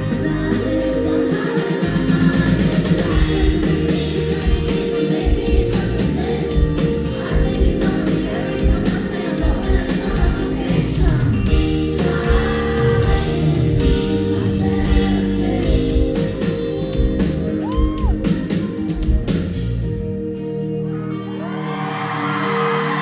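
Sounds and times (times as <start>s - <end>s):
live pop band with singer: 0.0s - 20.0s.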